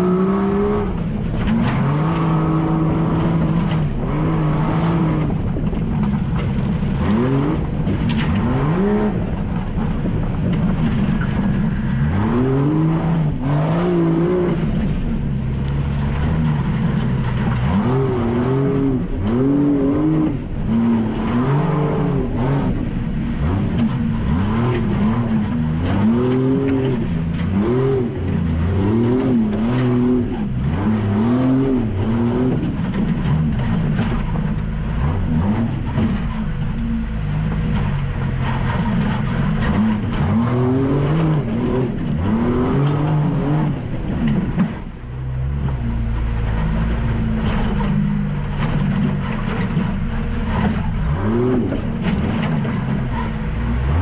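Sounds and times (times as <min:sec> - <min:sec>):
engine revving from inside cab: 0:00.0 - 0:54.0.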